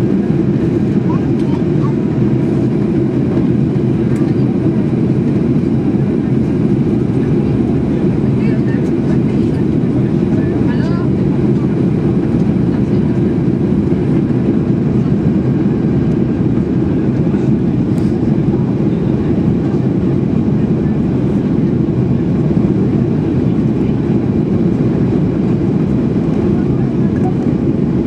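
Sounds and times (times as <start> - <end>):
airliner cabin rumble: 0.0 - 28.0.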